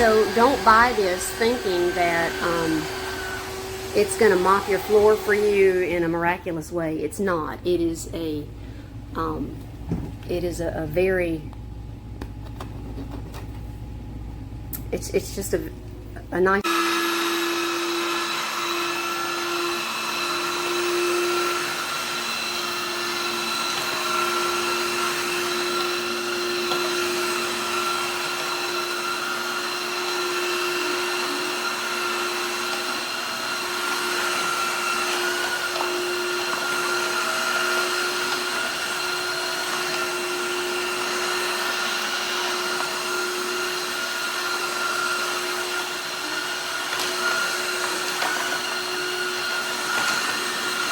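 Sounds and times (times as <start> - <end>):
floor washer motor whine: 0.0 - 50.9.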